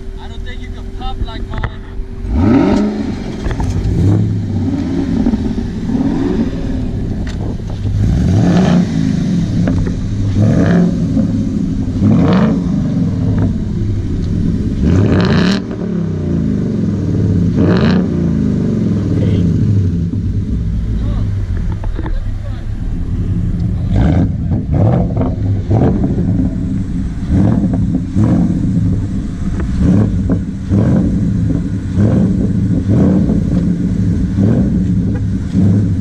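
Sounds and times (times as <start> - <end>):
car engine idling: 0.0 - 36.0
car engines revving: 0.0 - 36.0.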